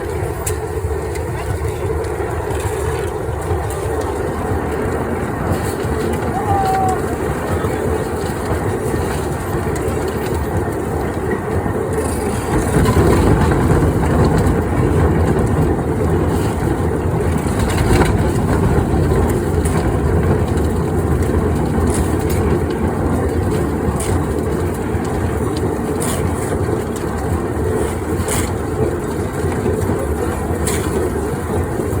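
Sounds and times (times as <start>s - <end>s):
concrete mixer rumbling: 0.0s - 32.0s.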